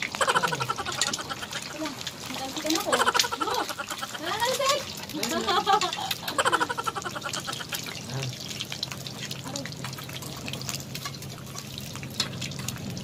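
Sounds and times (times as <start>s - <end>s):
eggs sizzling in hot oil: 0.0s - 13.0s
oil crackling and popping: 0.0s - 13.0s.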